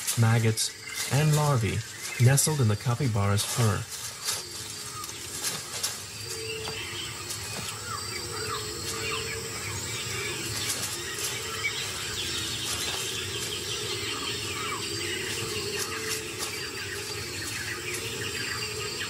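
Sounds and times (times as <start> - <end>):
birds chirping and calling: 0.0 - 19.0.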